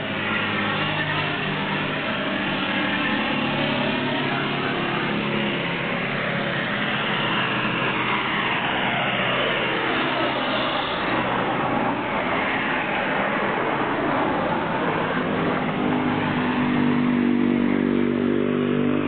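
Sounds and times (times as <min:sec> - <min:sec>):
traffic din: 0:00.0 - 0:19.0
vehicles passing on road: 0:00.0 - 0:19.0.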